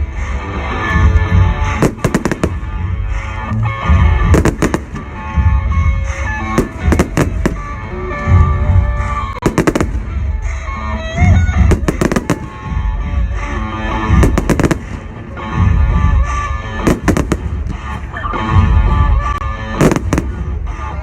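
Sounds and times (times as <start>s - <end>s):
background music: 0.0s - 21.0s
fireworks bangs and thuds: 0.9s - 21.0s.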